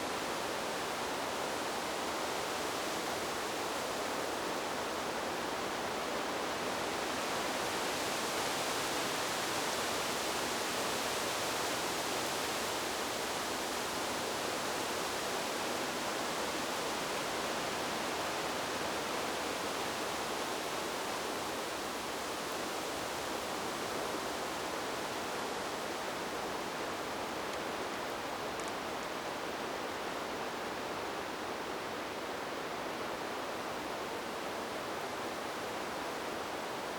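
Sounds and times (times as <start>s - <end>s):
wind in the trees: 0.0s - 36.9s.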